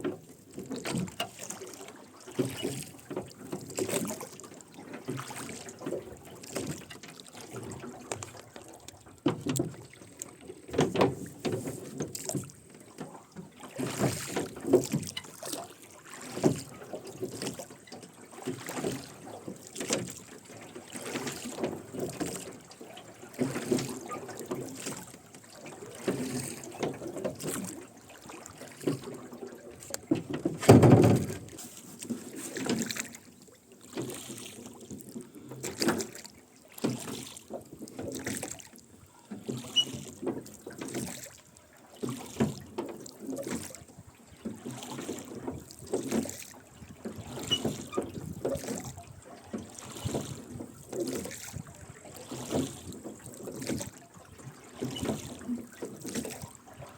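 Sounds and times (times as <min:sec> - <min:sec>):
oars splashing: 0:00.0 - 0:56.9.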